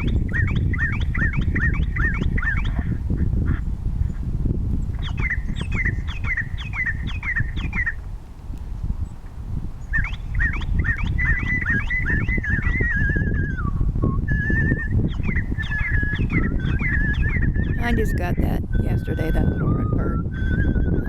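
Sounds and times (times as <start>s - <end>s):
bird whistling down-slurred notes: 0.0s - 2.9s, 5.0s - 8.0s, 9.8s - 21.0s.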